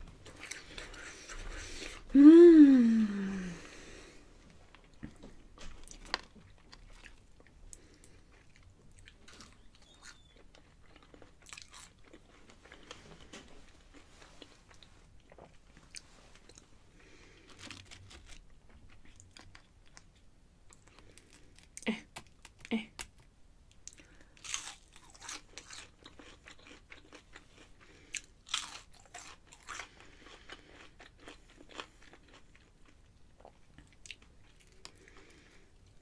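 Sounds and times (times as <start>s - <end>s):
person chewing fried food: 0.1s - 2.1s, 4.8s - 22.7s, 23.7s - 36.0s.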